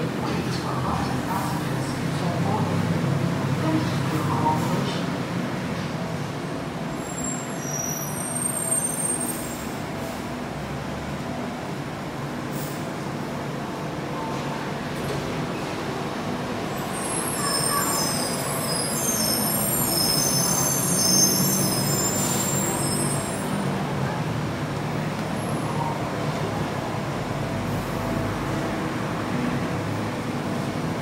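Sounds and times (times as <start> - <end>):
light rail train humming: 0.0 - 31.0.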